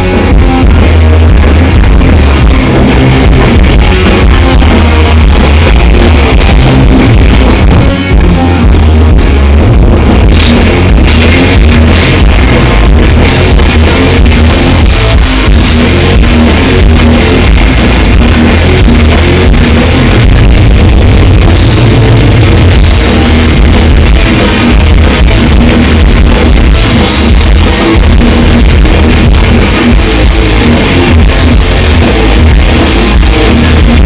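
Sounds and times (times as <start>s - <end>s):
distorted electric guitars: 0.0s - 34.0s
drum kit: 0.0s - 34.0s.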